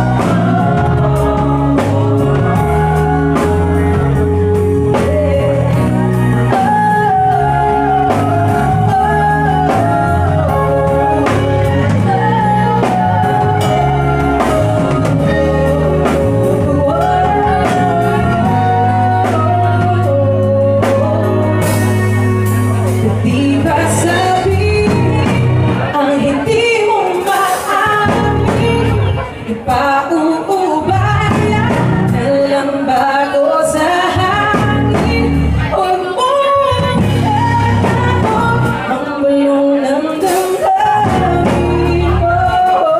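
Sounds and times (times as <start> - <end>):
bass guitar: 0.0 - 42.9
drums: 0.0 - 42.9
electric guitar: 0.0 - 42.9
person singing: 0.0 - 42.9.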